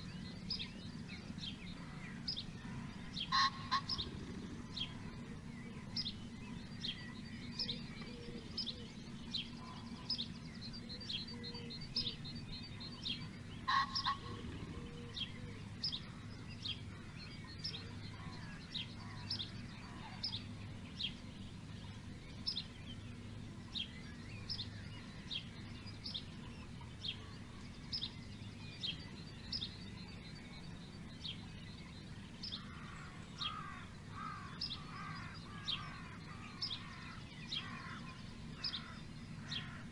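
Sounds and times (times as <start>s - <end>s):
harsh low bird calls: 0.0s - 39.9s
high trilling bird chatter: 0.0s - 39.9s
steady low hum: 0.0s - 39.9s.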